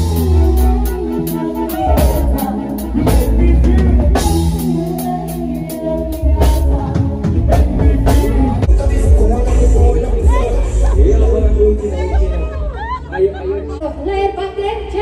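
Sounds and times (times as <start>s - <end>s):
drum kit beat: 0.0s - 13.0s
electric bass guitar: 0.0s - 13.8s.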